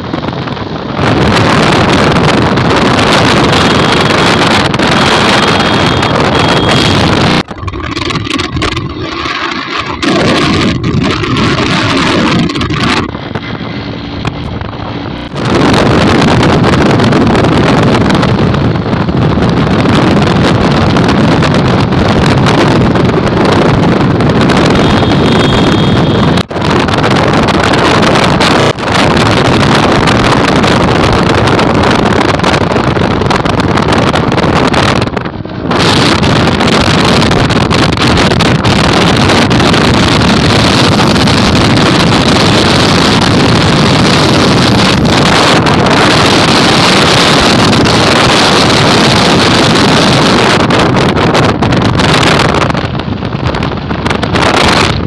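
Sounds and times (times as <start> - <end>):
vehicle engine drone: 0.0 - 55.0
wind rushing on microphone: 0.0 - 55.0.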